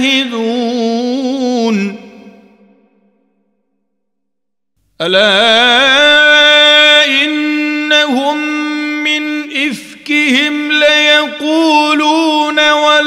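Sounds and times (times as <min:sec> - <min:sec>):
man chanting melodically: 0:00.0 - 0:02.5, 0:05.0 - 0:13.0.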